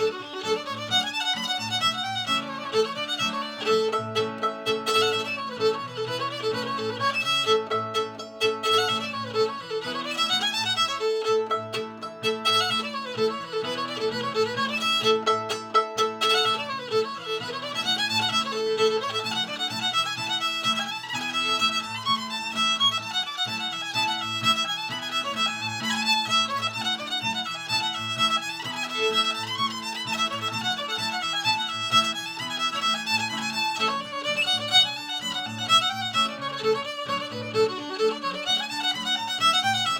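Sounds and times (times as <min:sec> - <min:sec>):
solo fiddle playing bluegrass tune: 0:00.0 - 0:39.9.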